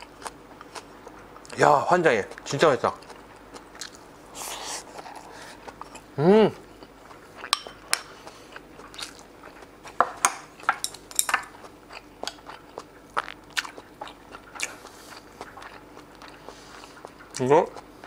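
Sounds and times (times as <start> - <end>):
chewing food: 0.0 - 1.6, 2.2 - 18.0.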